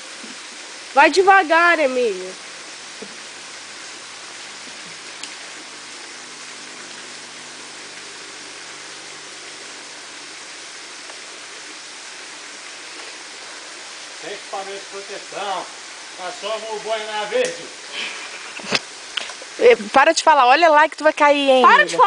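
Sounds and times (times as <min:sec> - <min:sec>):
steady hissing noise: 0:00.0 - 0:22.0.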